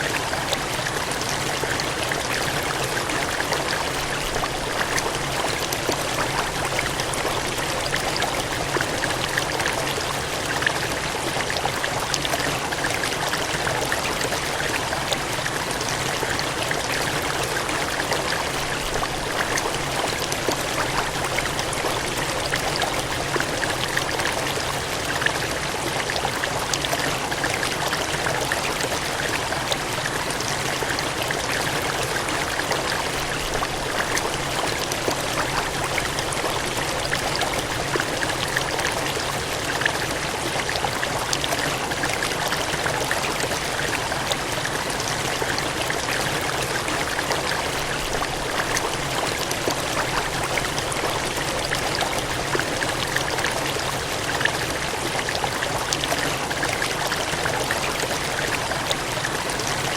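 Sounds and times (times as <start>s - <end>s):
cascading water gushing: 0.0s - 59.9s.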